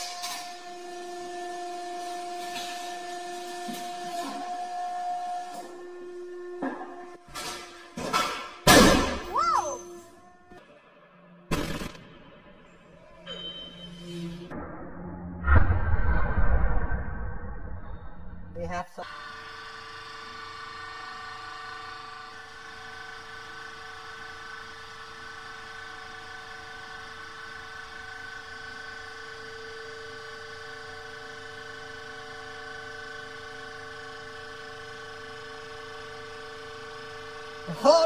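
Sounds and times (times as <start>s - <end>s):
hydraulic press whine: 0.0s - 15.4s, 19.1s - 38.0s.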